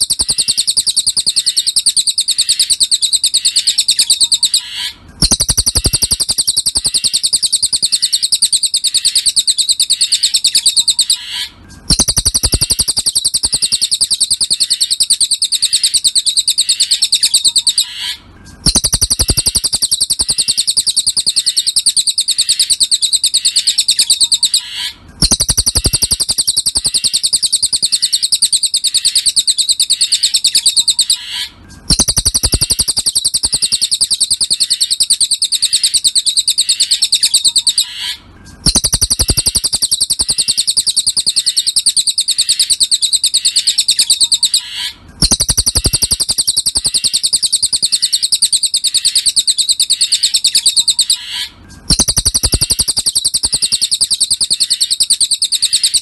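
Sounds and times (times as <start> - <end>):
bird trilling high chirps: 0.0 - 56.0.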